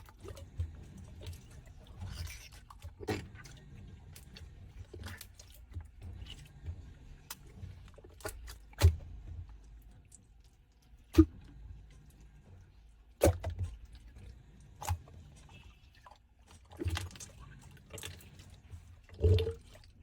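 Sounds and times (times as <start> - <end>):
washing machine hum: 0.0 - 20.0.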